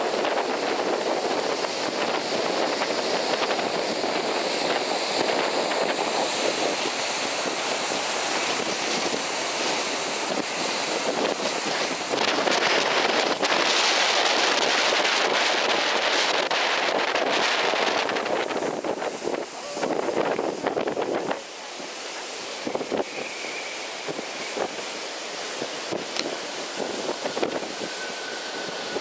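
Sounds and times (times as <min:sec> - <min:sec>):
surf breaking over rocks: 0:00.0 - 0:29.0
wind buffeting microphone: 0:00.0 - 0:29.0.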